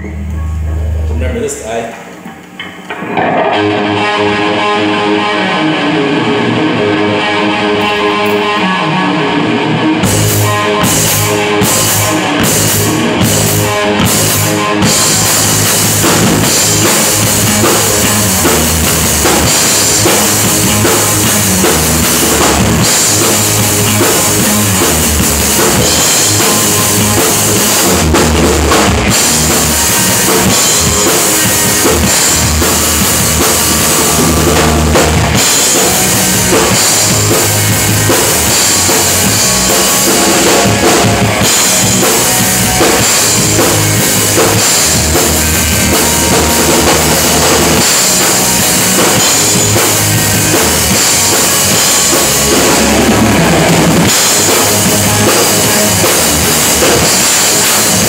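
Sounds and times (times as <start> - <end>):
electric guitars: 0.0 - 58.0
rock band playing live: 0.0 - 58.0
drum hits: 10.0 - 58.0.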